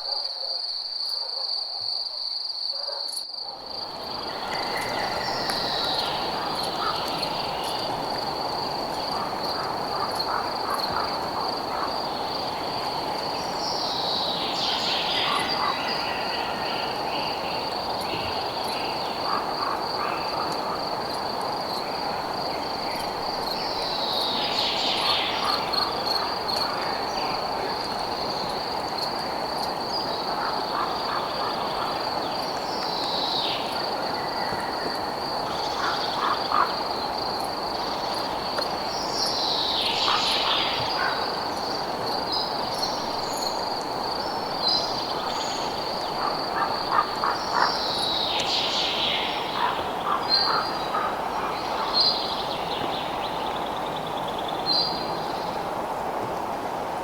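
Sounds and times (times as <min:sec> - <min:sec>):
frogs croaking: 0:02.6 - 0:55.5.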